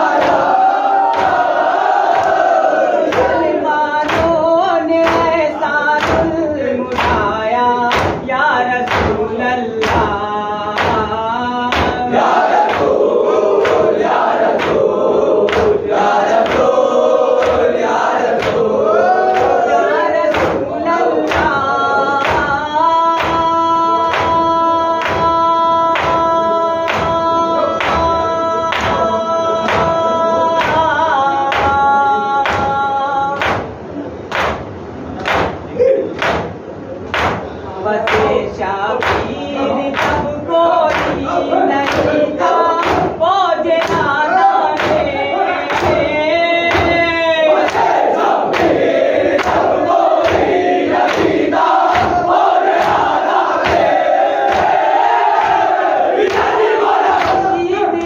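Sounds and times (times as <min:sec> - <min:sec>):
men chanting in unison: 0:00.0 - 0:33.6, 0:37.7 - 0:58.0.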